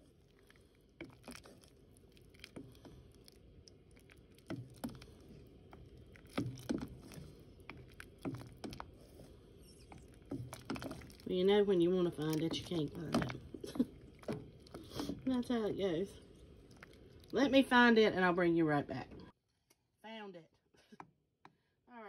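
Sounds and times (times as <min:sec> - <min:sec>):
utensil stirring soup: 0:00.0 - 0:18.1.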